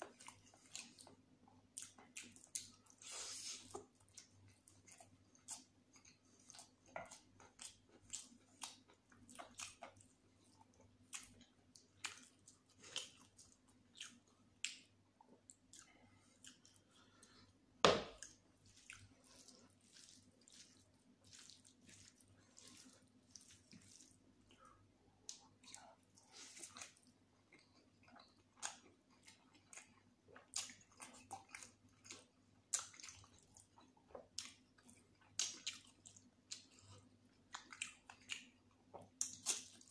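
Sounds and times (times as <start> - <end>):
wet chewing and mouth smacks: 0.0 - 39.9.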